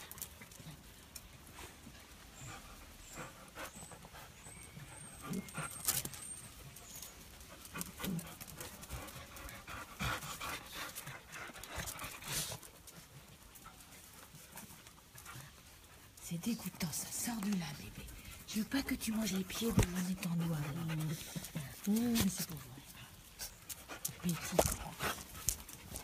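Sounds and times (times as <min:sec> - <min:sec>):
puppies scuffing on stone paving: 0:00.0 - 0:26.0.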